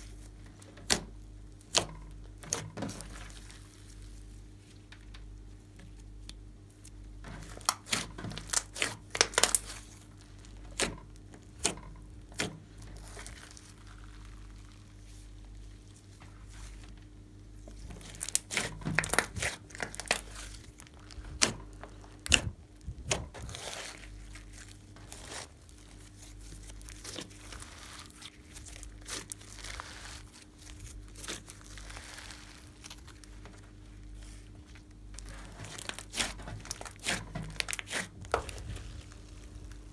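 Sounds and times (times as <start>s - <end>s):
faint steady hum: 0.0s - 39.9s
slime squishing: 0.0s - 39.9s
slime crackling and popping: 0.1s - 15.2s, 17.8s - 39.9s.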